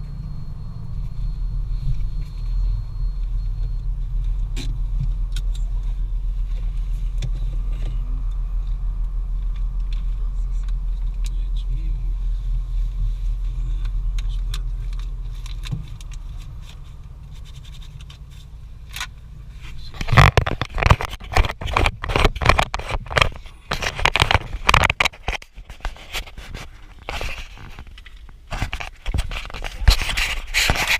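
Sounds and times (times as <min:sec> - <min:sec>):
low car rumble: 0:00.0 - 0:25.6.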